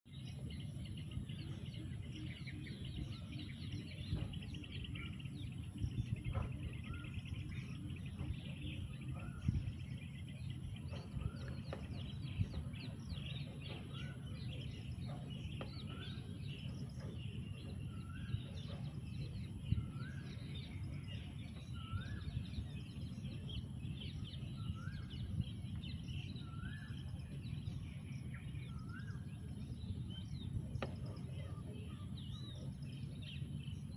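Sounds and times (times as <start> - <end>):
birds chirping: 0.1 - 33.9
low background rumble: 0.1 - 33.9.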